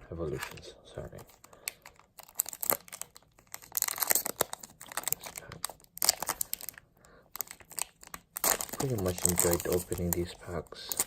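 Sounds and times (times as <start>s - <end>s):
foil wrapper crinkling: 1.3s - 11.0s.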